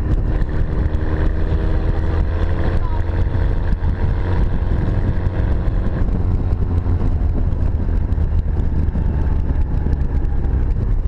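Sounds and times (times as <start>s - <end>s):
four-cylinder engine running: 0.0s - 11.0s.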